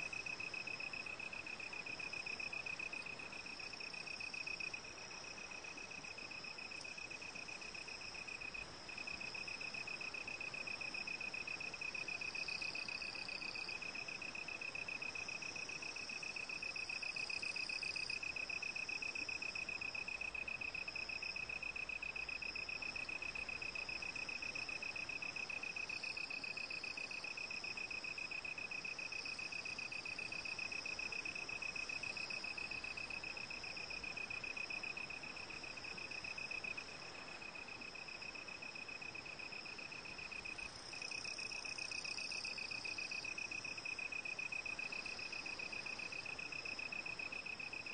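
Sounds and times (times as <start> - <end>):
crickets trilling: 0.0 - 47.9
faint higher insect song: 0.0 - 47.9.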